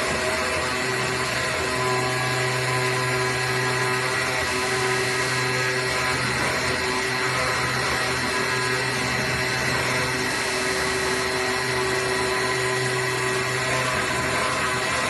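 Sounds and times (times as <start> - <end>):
cutting machine mechanical whine: 0.0 - 15.0.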